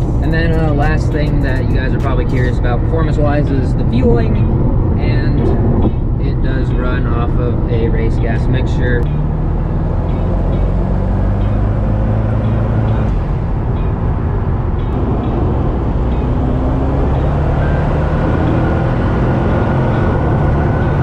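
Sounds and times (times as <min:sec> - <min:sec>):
car engine drone: 0:00.0 - 0:21.0
road noise: 0:00.0 - 0:21.0.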